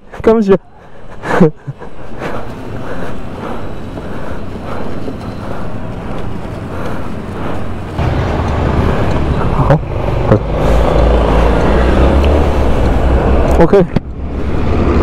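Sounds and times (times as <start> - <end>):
street traffic: 0.0 - 15.0
vehicle engine rumbling: 0.0 - 15.0.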